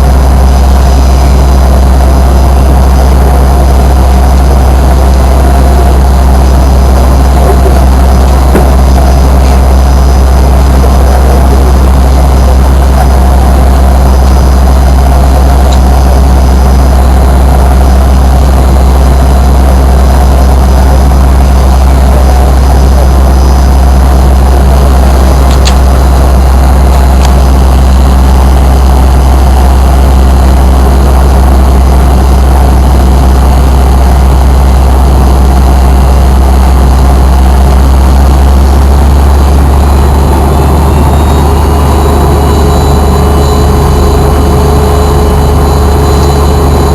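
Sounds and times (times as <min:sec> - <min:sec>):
jet engines droning in cabin: 0:00.0 - 0:46.9.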